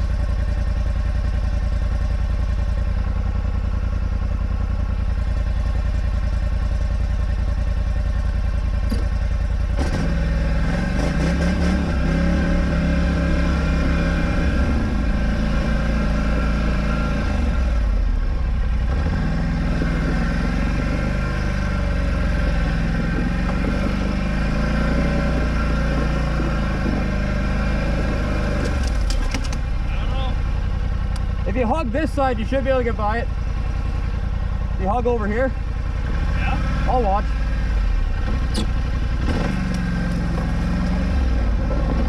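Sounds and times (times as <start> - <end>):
quad bike engine running: 0.0 - 42.0.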